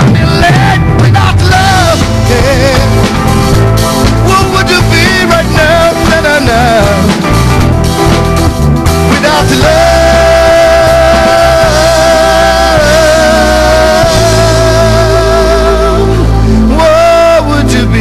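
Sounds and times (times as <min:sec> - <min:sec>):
man singing: 0:00.0 - 0:03.3, 0:04.2 - 0:07.4, 0:09.0 - 0:18.0
live rock band playing: 0:00.0 - 0:18.0.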